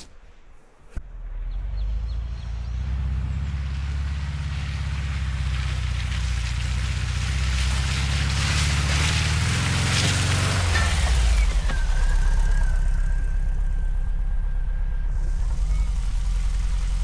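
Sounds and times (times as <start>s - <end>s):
van engine droning: 0.0s - 17.0s.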